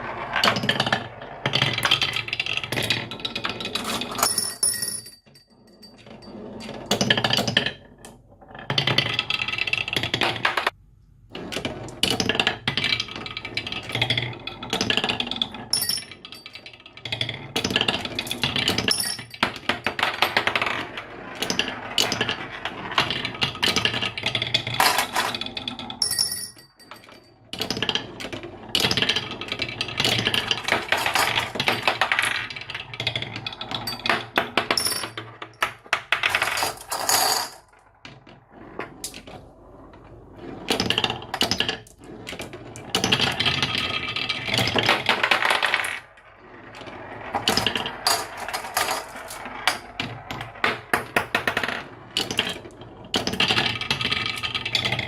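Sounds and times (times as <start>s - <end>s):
marbles clattering down track: 0.0s - 5.1s, 5.7s - 10.8s, 11.5s - 55.0s.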